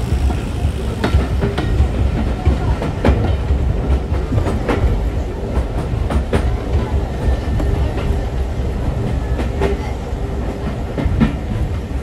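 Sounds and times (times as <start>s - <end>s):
train rumbling along track: 0.0s - 12.0s
wheels clicking over rail joints: 0.0s - 12.0s.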